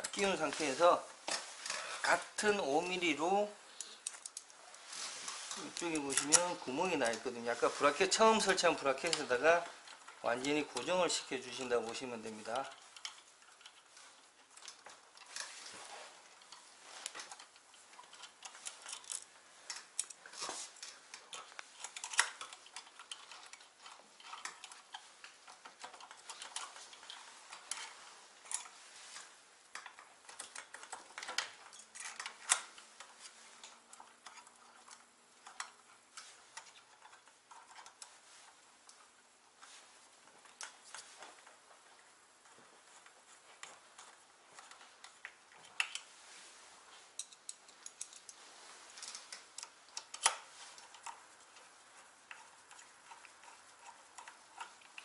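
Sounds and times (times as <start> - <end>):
small metallic clicks and scrapes: 0.0 - 2.9, 3.7 - 55.0.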